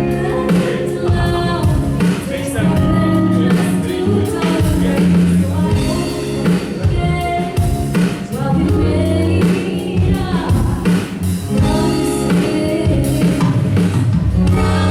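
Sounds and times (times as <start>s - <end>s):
live band music with singing: 0.0s - 14.9s.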